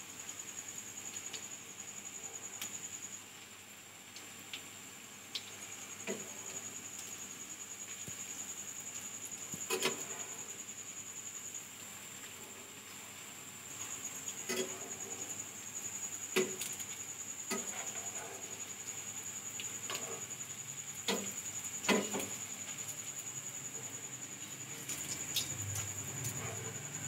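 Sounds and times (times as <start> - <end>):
food sizzling in oil: 4.2 - 27.0.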